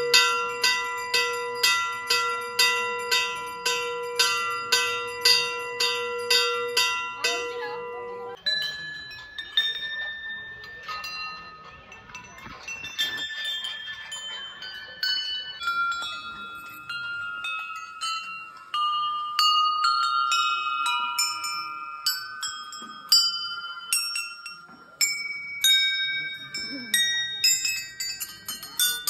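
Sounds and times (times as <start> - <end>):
brass temple bells ringing: 0.0 - 29.0.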